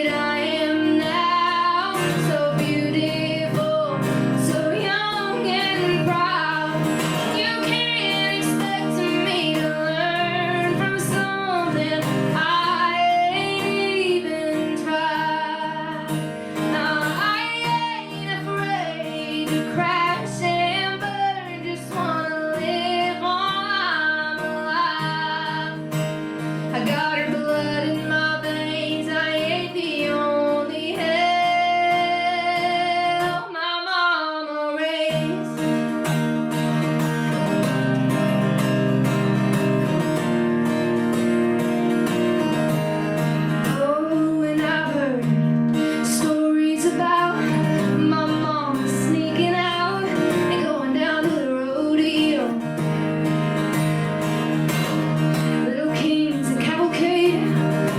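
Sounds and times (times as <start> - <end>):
woman singing: 0.0 - 36.1, 37.3 - 54.2, 54.8 - 57.9
acoustic guitar: 0.0 - 57.9.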